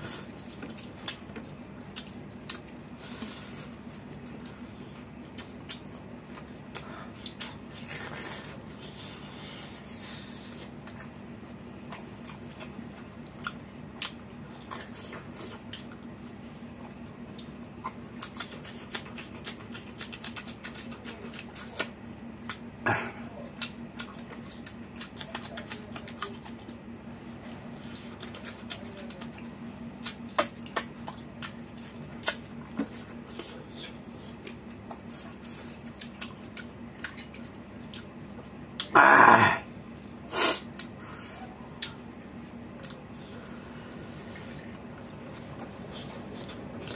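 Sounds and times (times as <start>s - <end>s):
steady low hum: 0.0s - 46.9s
wet smacks and chewing clicks: 0.2s - 39.0s, 39.9s - 41.0s, 41.7s - 43.2s, 44.2s - 46.9s.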